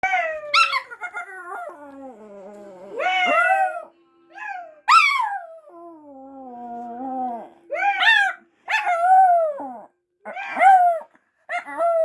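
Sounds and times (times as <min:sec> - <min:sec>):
dog howling and yelping: 0:00.0 - 0:12.0.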